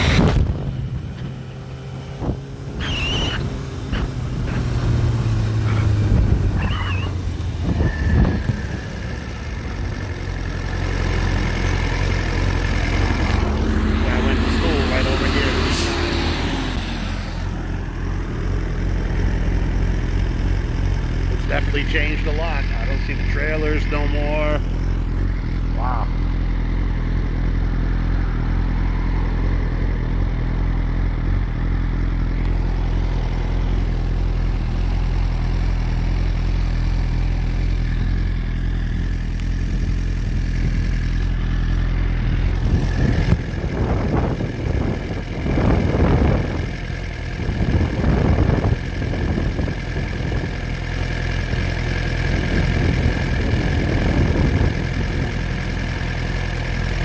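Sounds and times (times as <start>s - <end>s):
vehicle engine running at low revs: 0.0s - 57.0s.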